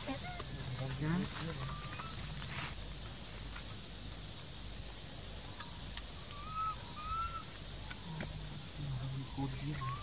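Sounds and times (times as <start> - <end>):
steady high-pitched hiss: 0.0 - 10.0.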